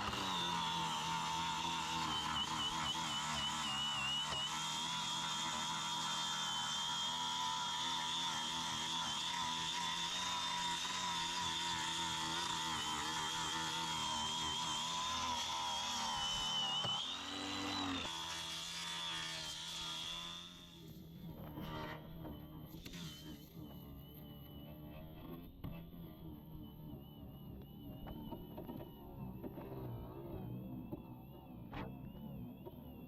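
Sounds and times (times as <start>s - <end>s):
angle grinder grinding paint: 0.0s - 33.0s.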